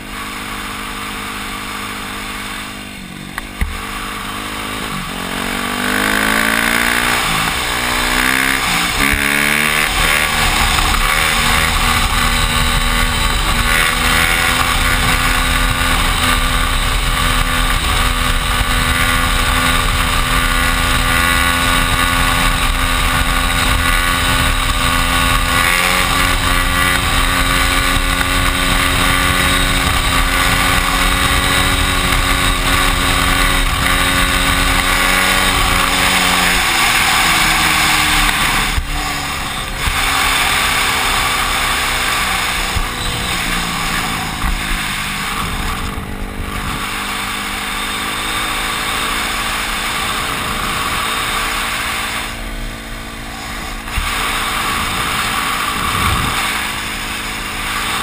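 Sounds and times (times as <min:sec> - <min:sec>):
dirt bike engine revving: 0:00.0 - 0:58.0
wind noise on microphone: 0:06.4 - 0:58.0.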